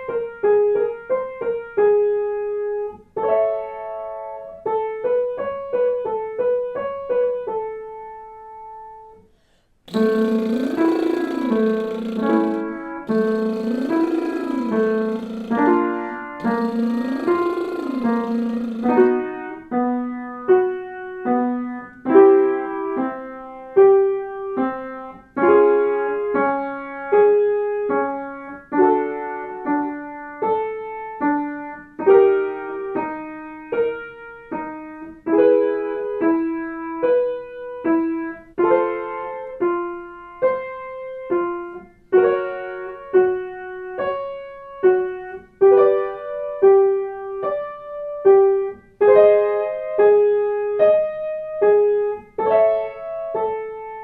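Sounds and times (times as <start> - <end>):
piano warmup accompaniment: 10.0 - 54.0.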